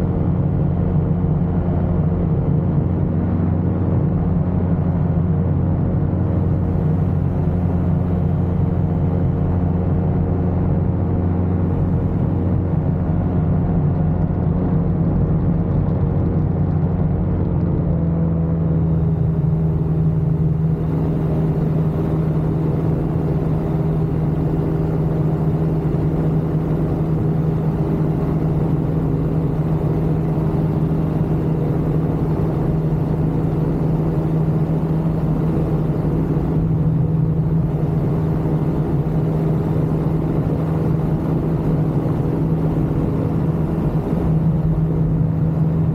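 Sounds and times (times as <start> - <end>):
ultralight aircraft engine running: 0.0 - 45.9.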